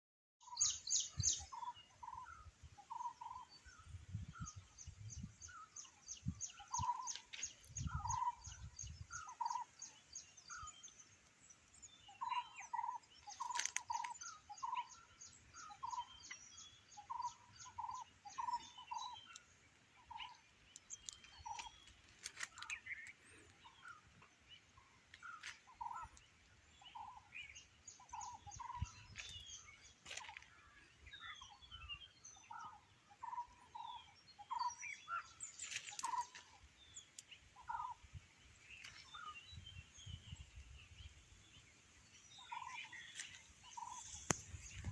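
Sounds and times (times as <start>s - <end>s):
birds calling low repeated notes: 0.4s - 44.9s.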